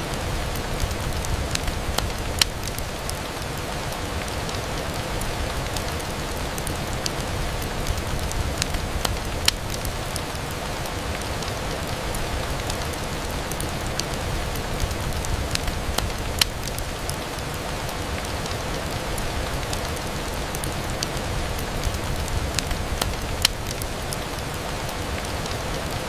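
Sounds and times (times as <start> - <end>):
rain on window glass: 0.0 - 26.0
sharp ticks and pops: 0.1 - 26.0.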